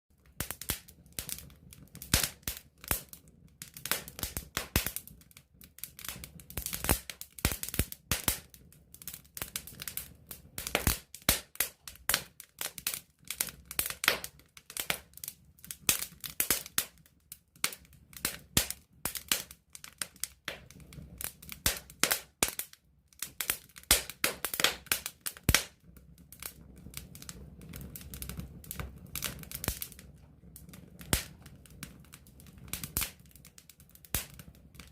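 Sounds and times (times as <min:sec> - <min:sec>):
campfire crackling and popping: 0:00.2 - 0:34.9.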